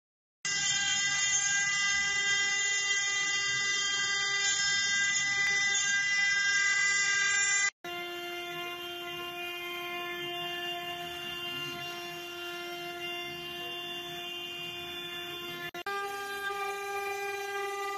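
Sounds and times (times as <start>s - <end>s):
stone carving machine spindle whine: 0.5s - 17.9s.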